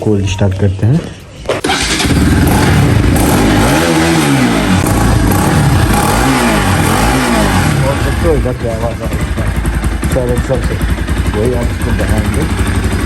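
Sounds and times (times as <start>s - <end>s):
motorcycle engine starting and revving: 1.4s - 13.0s.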